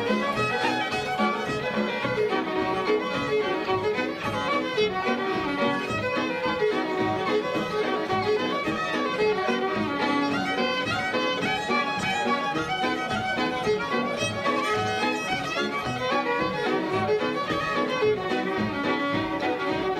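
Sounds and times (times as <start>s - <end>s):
fiddles playing a reel: 0.0s - 19.9s.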